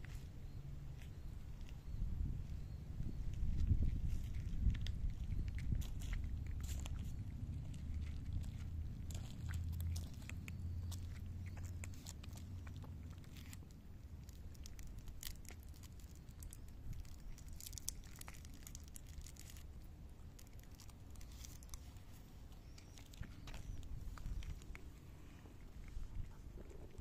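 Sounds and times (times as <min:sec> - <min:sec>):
cats crunching dry kibble: 0:00.0 - 0:27.0
low steady rumble: 0:00.0 - 0:27.0.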